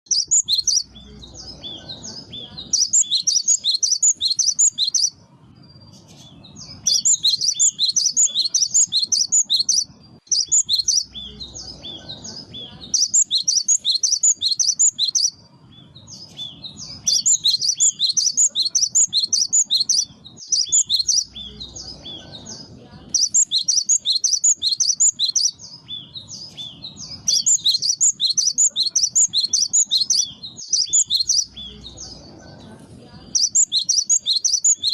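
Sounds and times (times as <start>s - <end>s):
bird singing high repeated notes: 0.0s - 22.3s, 23.1s - 31.9s, 33.4s - 34.9s.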